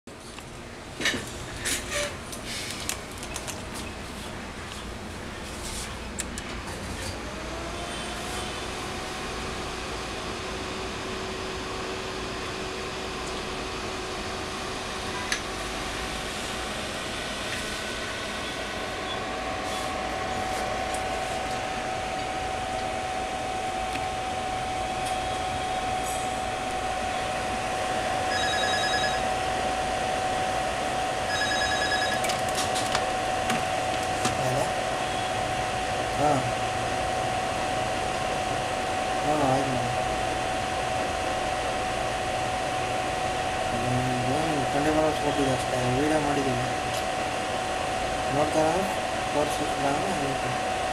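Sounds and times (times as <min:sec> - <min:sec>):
electronic equipment whirring hum: 0:00.3 - 0:50.9
thin steady whine: 0:00.7 - 0:50.9.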